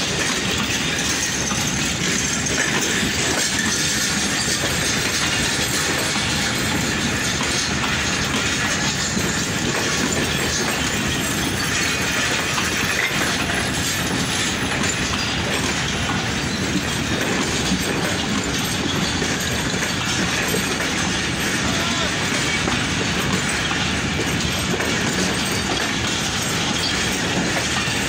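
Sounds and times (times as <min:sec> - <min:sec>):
steel wheels running on rails: 0:00.0 - 0:28.0.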